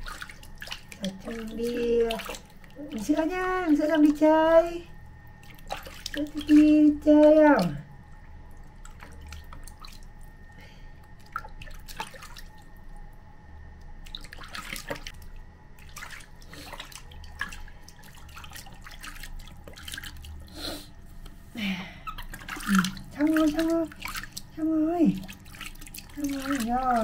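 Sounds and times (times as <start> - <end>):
water splashing in basin: 0.0 - 13.2, 13.8 - 20.5, 21.9 - 27.0.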